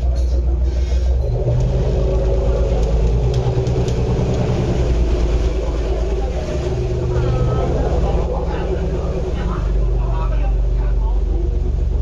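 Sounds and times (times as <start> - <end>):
ferry engine humming: 0.0 - 12.0.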